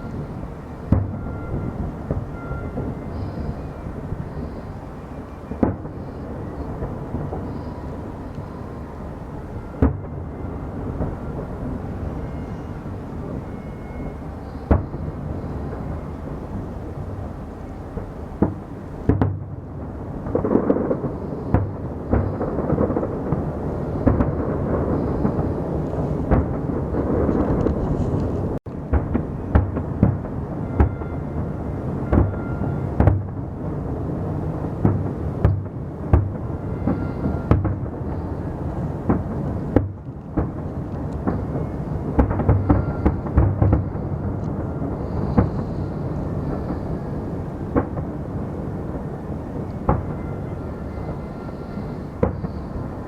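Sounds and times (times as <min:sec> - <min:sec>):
fireworks exploding: 0:00.0 - 0:53.0.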